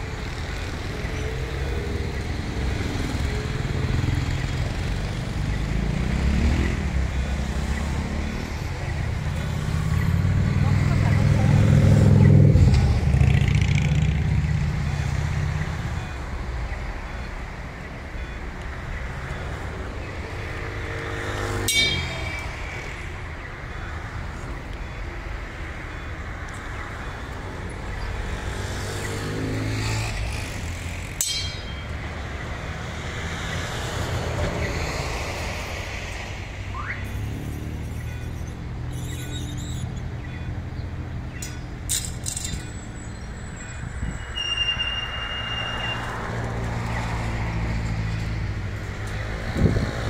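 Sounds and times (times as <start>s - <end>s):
traffic hum: 0.0s - 50.0s.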